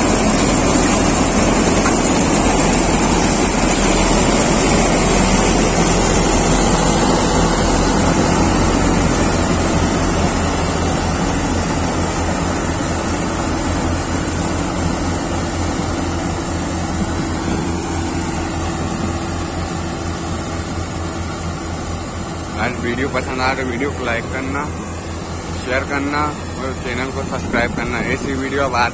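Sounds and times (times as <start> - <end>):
combine harvester droning: 0.0 - 28.9.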